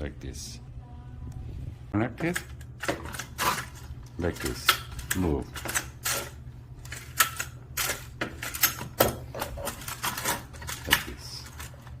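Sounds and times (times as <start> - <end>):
steady low hum: 0.0 - 12.0
curtain parts clicking and rattling: 2.2 - 12.0.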